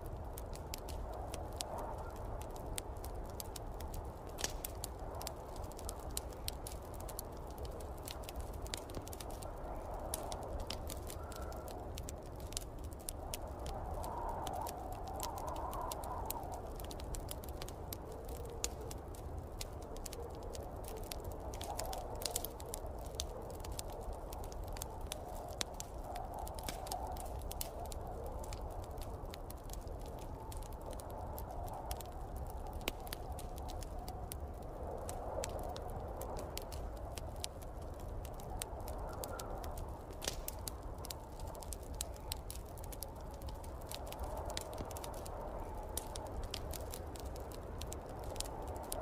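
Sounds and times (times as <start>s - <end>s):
gusting wind rumble: 0.0s - 49.0s
wood fire crackling: 0.0s - 49.0s.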